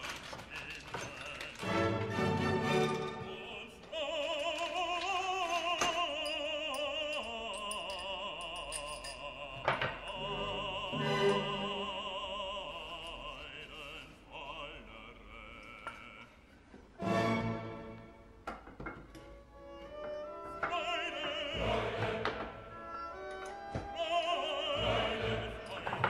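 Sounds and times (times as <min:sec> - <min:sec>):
operatic singing: 0:00.0 - 0:18.2, 0:19.9 - 0:26.0.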